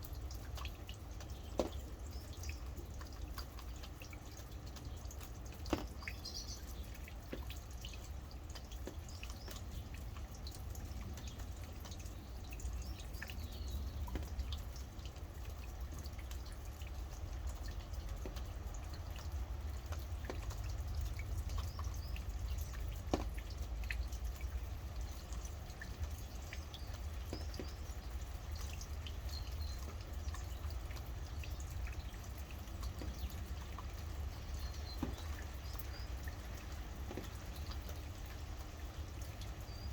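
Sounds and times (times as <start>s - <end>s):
low steady rumble: 0.0s - 39.9s
rain drops dripping: 0.0s - 39.9s.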